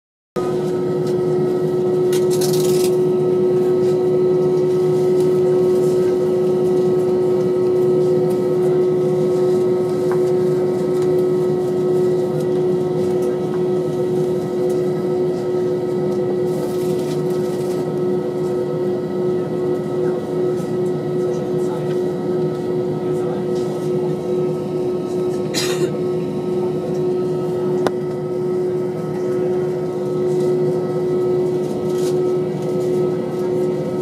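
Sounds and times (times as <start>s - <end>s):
airplane cabin engine hum: 0.4s - 34.0s.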